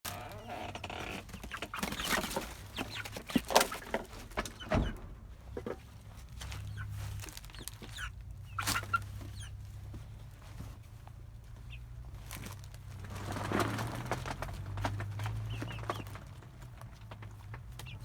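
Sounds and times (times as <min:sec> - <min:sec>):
chickens clucking: 0:00.1 - 0:18.0.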